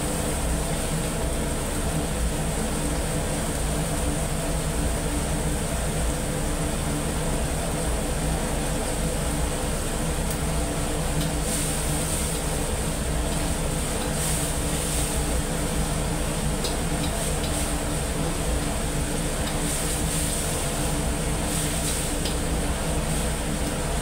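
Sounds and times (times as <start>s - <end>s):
gas burner roaring: 0.0s - 24.0s
kitchen blower humming: 0.0s - 24.0s
sizzling in a wok: 0.0s - 24.0s.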